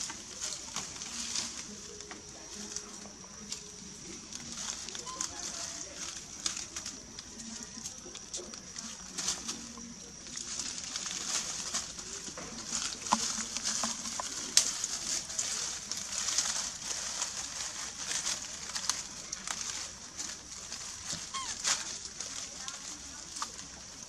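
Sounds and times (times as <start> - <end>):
dry leaves crackling: 0.0 - 24.0.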